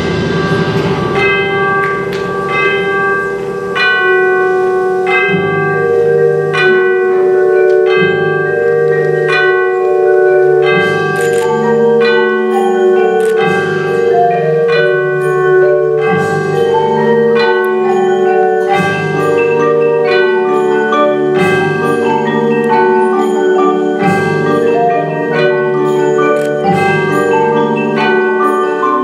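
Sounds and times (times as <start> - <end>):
marimbas and vibraphones playing chords: 0.0 - 29.0.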